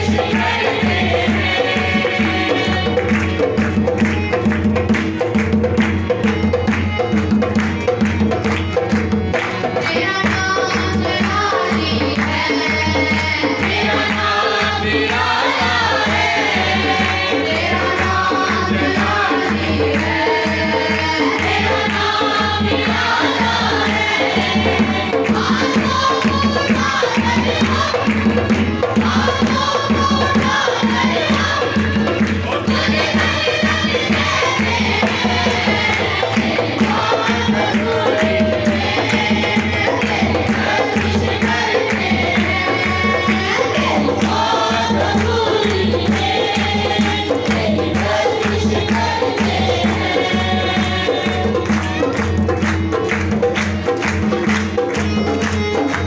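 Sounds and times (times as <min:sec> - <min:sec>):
instrumental accompaniment: 0:00.0 - 0:56.0
percussion beat: 0:00.0 - 0:56.0
voices singing together: 0:00.0 - 0:56.0.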